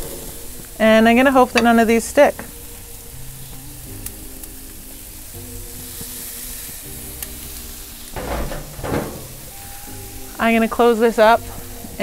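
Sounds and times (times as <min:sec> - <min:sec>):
chicken sizzling on grill: 0:00.0 - 0:12.0
soft background music: 0:00.0 - 0:12.0.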